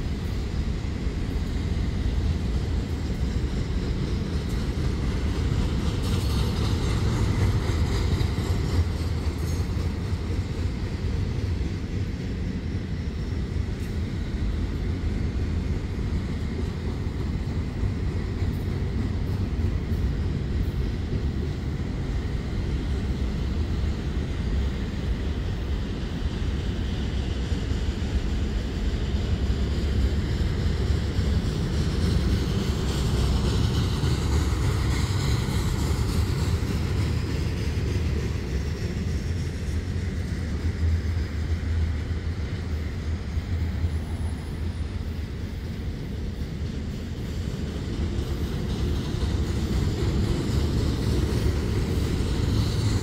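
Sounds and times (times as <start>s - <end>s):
train cars rattling: 0.0s - 53.0s
train wheels rumbling on rail: 0.0s - 53.0s.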